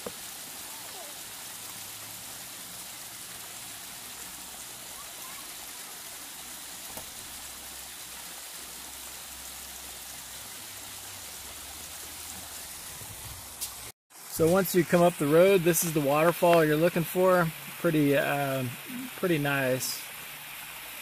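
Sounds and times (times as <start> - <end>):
waterfall splashing on rock: 0.0 - 21.0.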